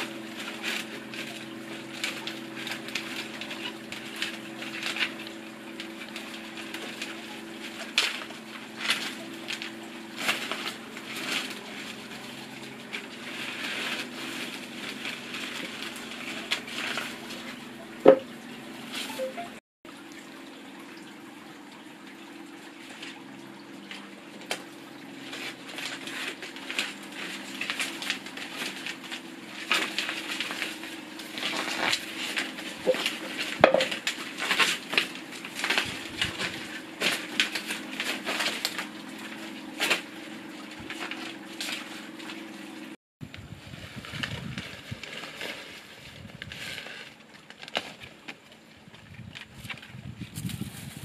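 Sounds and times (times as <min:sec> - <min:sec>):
paper crinkling and rustling: 0:00.0 - 0:17.8, 0:23.9 - 0:42.6, 0:43.3 - 0:51.0.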